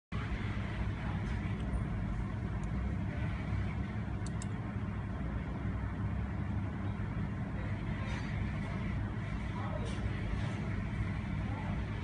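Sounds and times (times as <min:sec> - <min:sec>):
low mechanical rumble: 0:00.1 - 0:12.0.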